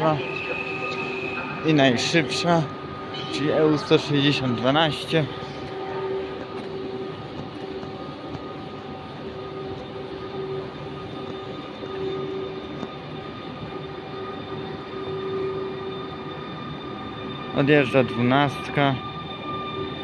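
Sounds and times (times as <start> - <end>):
electric locomotive whine: 0.0 - 20.0
rumbling rail noise: 0.0 - 20.0.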